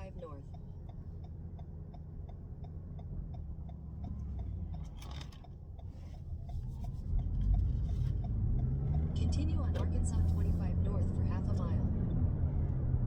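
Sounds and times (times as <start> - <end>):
turn signal clicking: 0.0 - 12.9
car road and engine rumble: 0.0 - 13.0.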